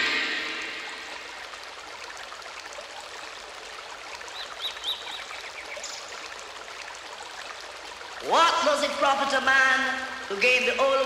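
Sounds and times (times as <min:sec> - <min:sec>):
running stream water: 0:00.0 - 0:11.0.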